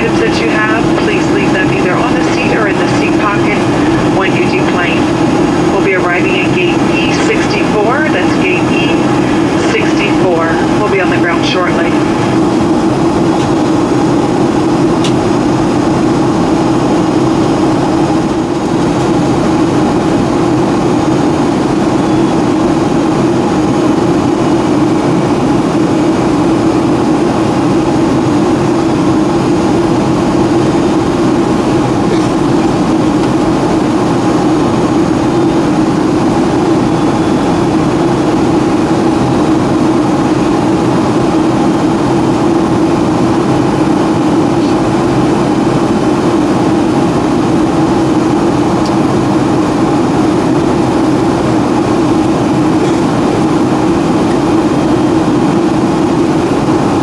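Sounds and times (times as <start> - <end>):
airplane cabin engine rush: 0.0 - 57.0
steady hum: 0.0 - 57.0.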